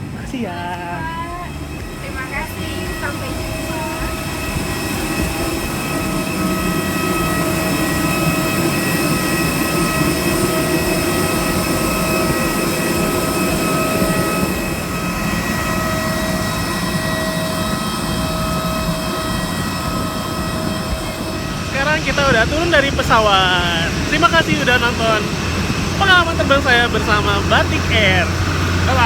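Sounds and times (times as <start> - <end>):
jet aircraft turbines whining: 0.0 - 29.0.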